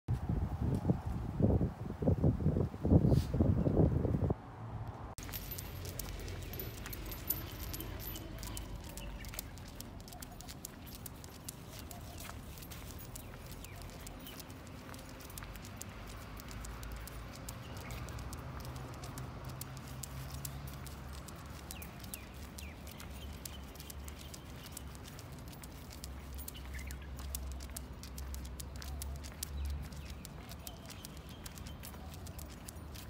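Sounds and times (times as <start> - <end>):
dog claws clicking on tiles: 5.2 - 33.0.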